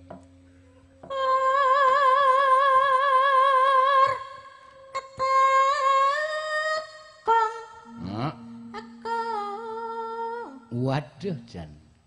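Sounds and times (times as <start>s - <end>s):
woman singing long notes: 1.0s - 10.8s.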